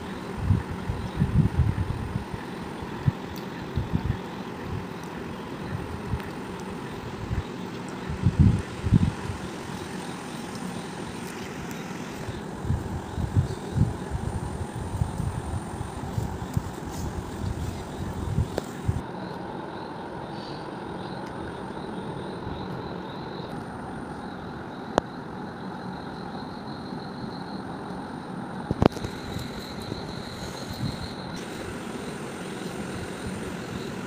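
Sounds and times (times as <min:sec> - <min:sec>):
steady background noise: 0:00.0 - 0:34.0.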